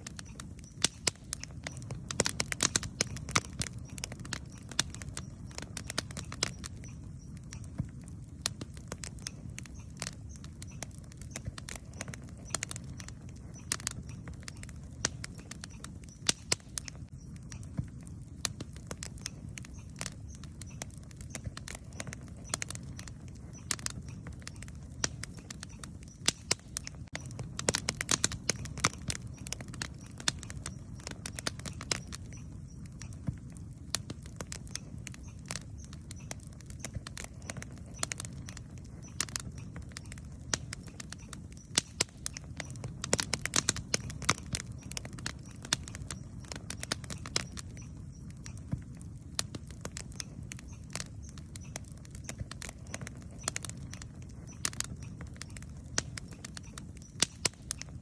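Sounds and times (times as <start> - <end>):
campfire crackles and pops: 0.0 - 58.0
low rumble of flame: 0.0 - 58.0.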